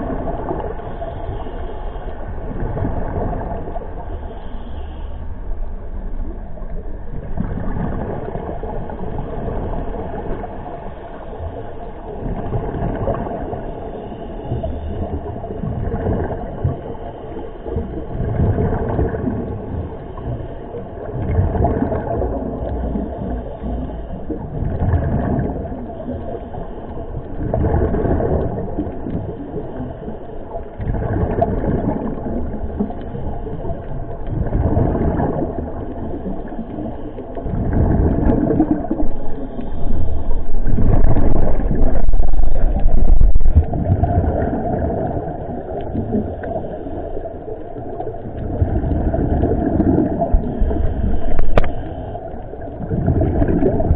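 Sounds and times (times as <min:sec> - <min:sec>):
exhaled bubbles underwater: 0:00.0 - 0:53.9
low underwater rumble: 0:00.0 - 0:53.9.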